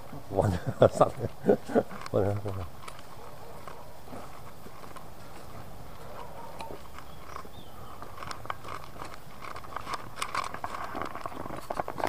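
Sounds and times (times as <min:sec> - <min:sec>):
footsteps on dirt path: 0:00.0 - 0:12.0.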